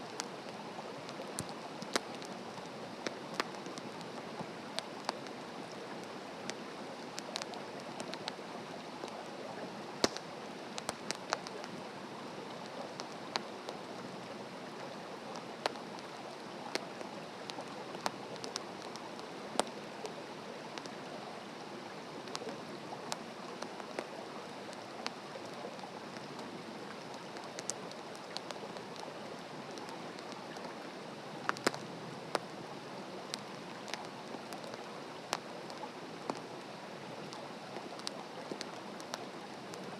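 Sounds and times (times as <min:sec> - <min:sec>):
burning wood crackling and popping: 0:00.0 - 0:21.0, 0:21.9 - 0:39.9.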